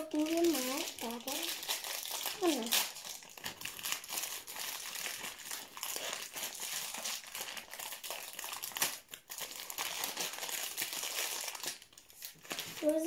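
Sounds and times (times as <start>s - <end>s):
plastic wrapper crackling: 0.0s - 13.0s.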